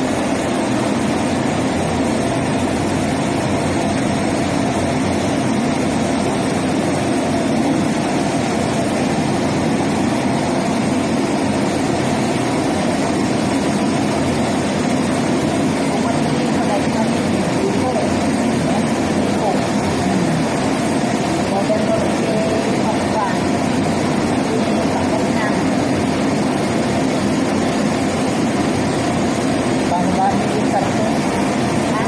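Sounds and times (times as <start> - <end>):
turboprop engines droning: 0.0 - 32.0.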